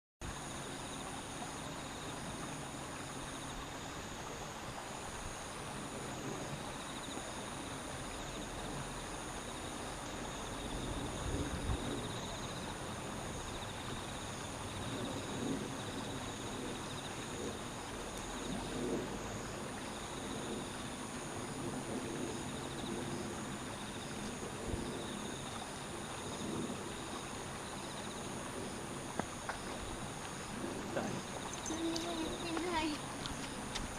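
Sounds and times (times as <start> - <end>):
faint hiss: 0.2 - 33.9
insects trilling: 0.2 - 33.9.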